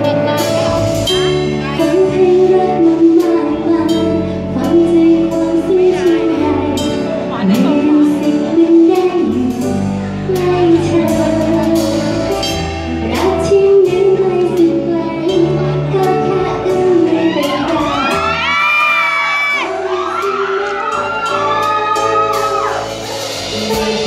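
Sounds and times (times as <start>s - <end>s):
live pop band music: 0.0s - 24.0s.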